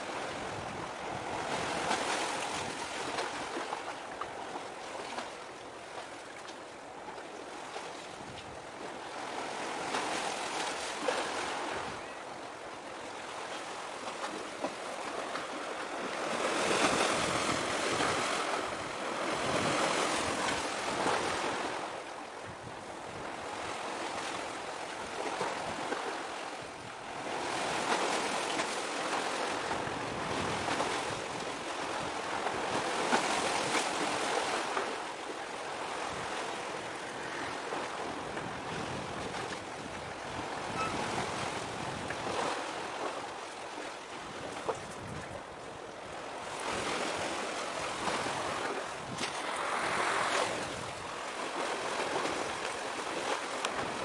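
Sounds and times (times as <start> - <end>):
waves washing against shore: 0.0 - 54.0.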